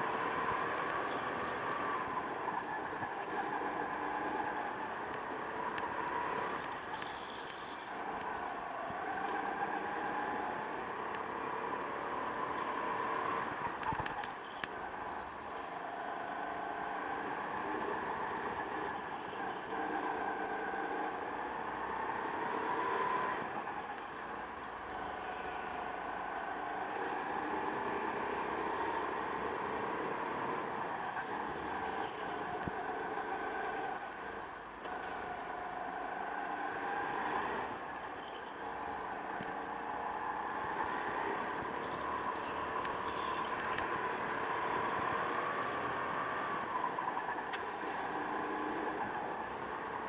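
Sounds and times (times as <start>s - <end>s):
go-kart engine accelerating: 0.0s - 50.0s.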